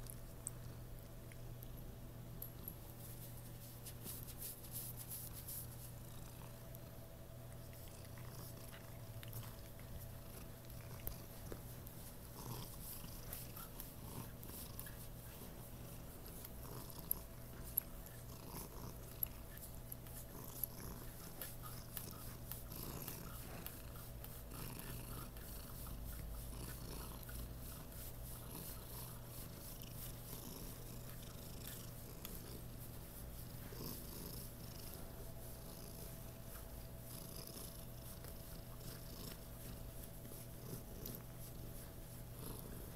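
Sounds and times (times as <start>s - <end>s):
cat purring: 3.3s - 42.9s.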